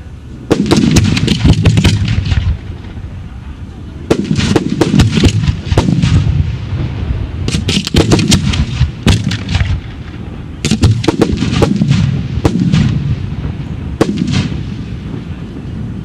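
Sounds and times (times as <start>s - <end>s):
continuous low rumble: 0.0s - 16.0s
fireworks bangs and cracks: 0.4s - 3.1s, 4.0s - 16.0s.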